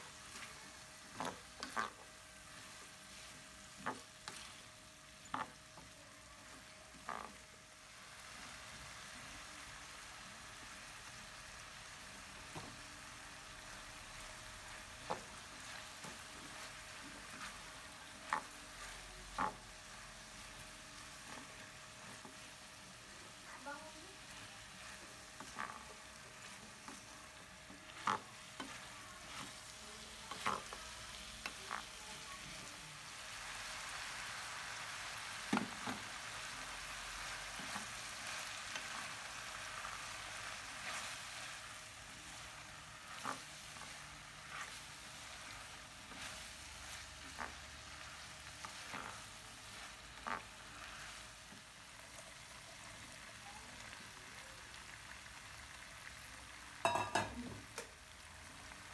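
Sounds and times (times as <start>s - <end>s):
food sizzling in a wok: 0.0s - 58.9s.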